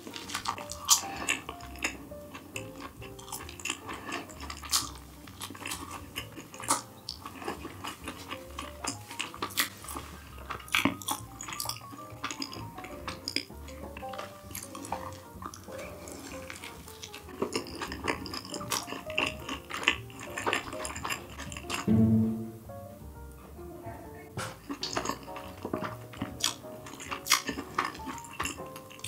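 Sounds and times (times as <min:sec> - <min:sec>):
utensils tapping takeout dishes: 0:00.0 - 0:21.9, 0:24.4 - 0:29.0.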